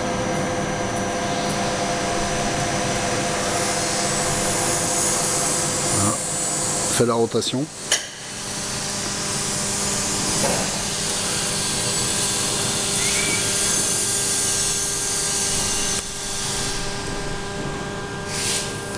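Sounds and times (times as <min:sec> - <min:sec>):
constant motor hum: 0:00.0 - 0:18.9
crane motor whirring: 0:00.0 - 0:18.9.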